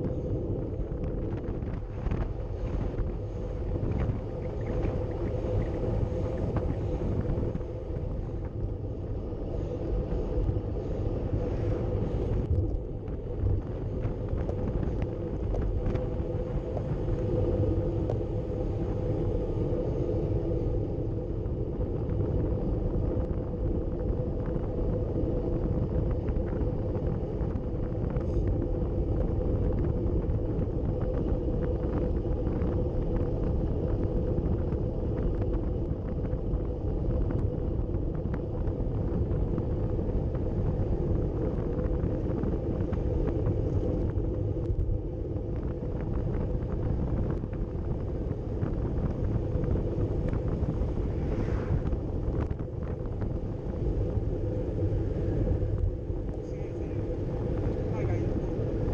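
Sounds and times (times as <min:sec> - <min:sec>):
road rumble: 0:00.0 - 0:58.9
wind rush: 0:00.0 - 0:58.9.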